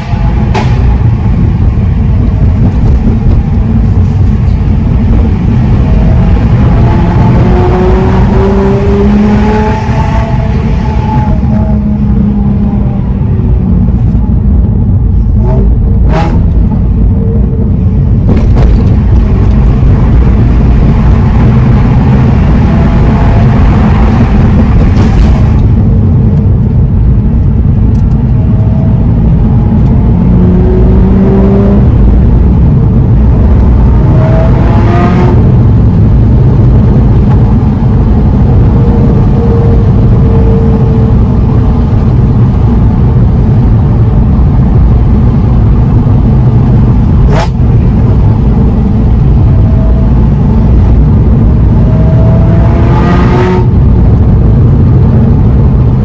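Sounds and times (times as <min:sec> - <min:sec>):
car engine accelerating: 0:00.0 - 0:56.0
road noise rumble: 0:00.0 - 0:56.0.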